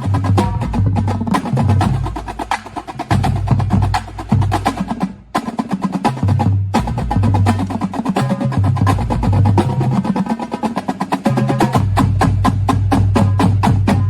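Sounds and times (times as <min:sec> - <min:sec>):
drum corps percussion playing: 0:00.0 - 0:14.0.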